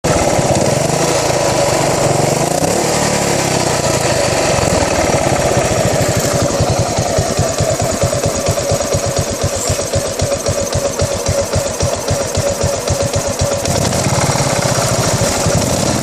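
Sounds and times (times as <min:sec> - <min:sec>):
motorcycle engine rough idle: 0:00.0 - 0:16.0.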